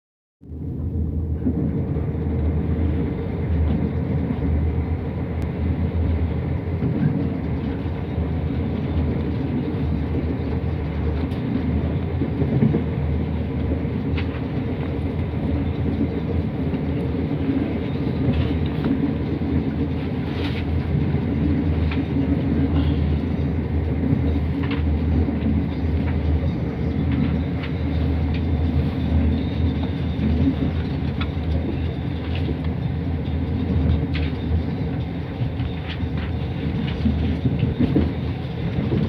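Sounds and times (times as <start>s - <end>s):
train wheels rumbling on rails: 0.4s - 39.0s.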